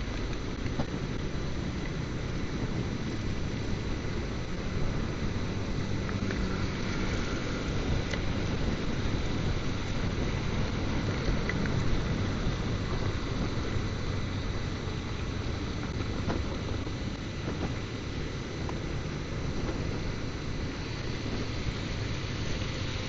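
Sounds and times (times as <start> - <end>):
tyre noise on wet road: 0.0 - 23.0
wind buffeting microphone: 0.0 - 23.0.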